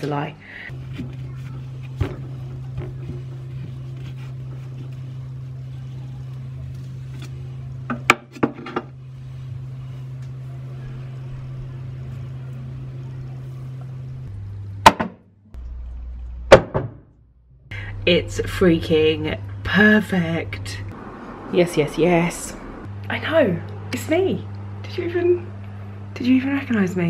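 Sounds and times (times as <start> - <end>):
steady low hum: 0.3 - 27.0.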